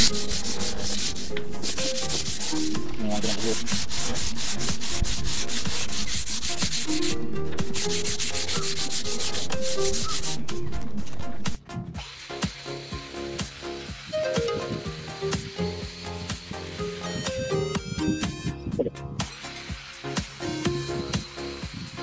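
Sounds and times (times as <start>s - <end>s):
sandpaper rubbing on wood: 0.0s - 17.9s, 19.2s - 22.0s.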